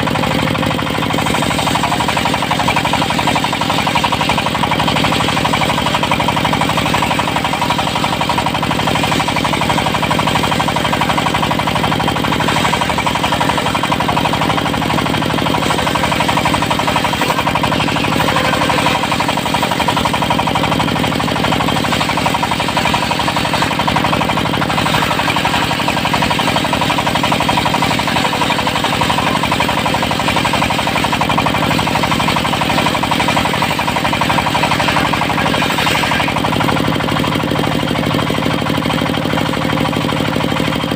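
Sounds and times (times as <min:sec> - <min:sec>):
saw blade whining: 0:00.0 - 0:40.7
diesel engine knocking: 0:00.0 - 0:40.9.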